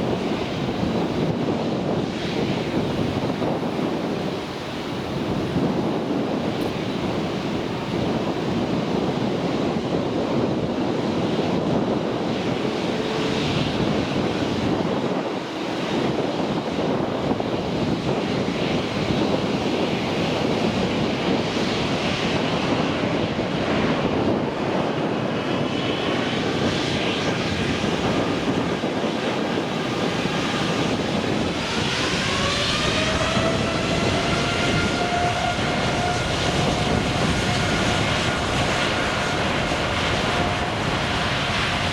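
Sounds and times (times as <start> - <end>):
high whine: 0.0 - 41.9
jet engines running: 0.0 - 41.9.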